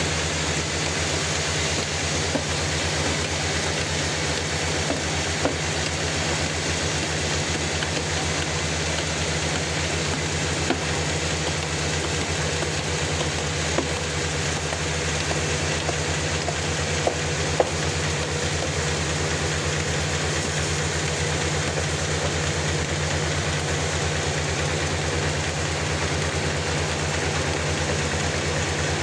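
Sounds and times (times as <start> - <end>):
sawmill engine drone: 0.0 - 29.0.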